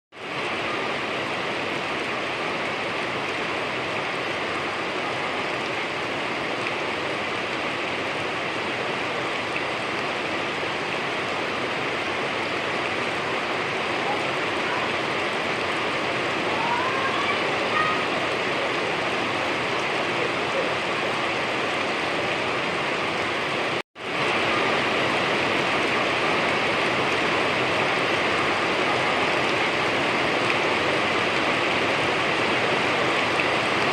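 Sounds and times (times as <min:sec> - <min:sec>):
heavy rain: 0:00.1 - 0:33.9.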